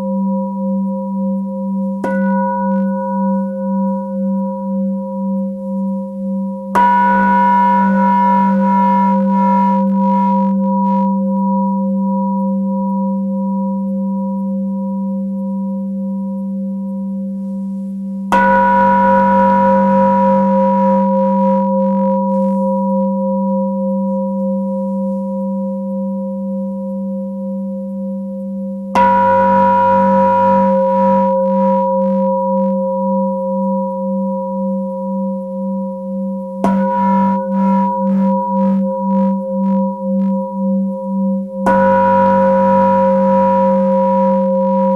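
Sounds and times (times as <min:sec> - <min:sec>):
singing bowl ringing: 0:00.0 - 0:44.9.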